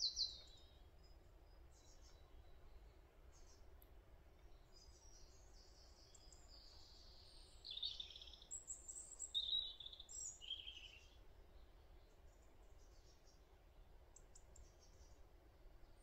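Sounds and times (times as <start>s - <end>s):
outdoor background hiss: 0.0s - 16.0s
small birds chirping: 0.0s - 16.0s.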